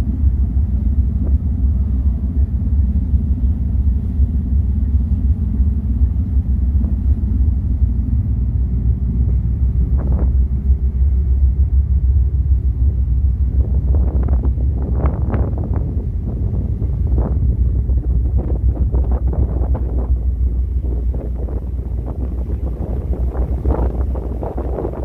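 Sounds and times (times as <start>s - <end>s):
ship engine drone: 0.0s - 25.0s
wind on microphone: 0.0s - 25.0s.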